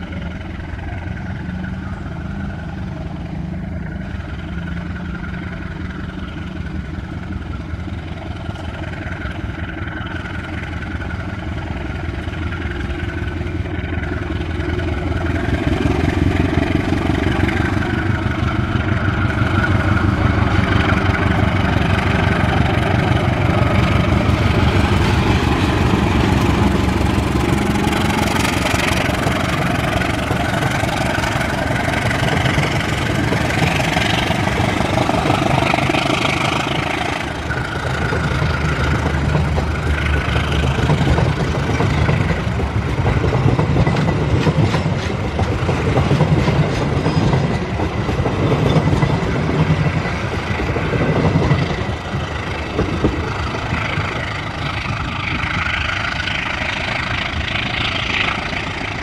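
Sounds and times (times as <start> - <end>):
locomotive engine running: 0.0 - 59.0
wheels on rails: 0.0 - 59.0.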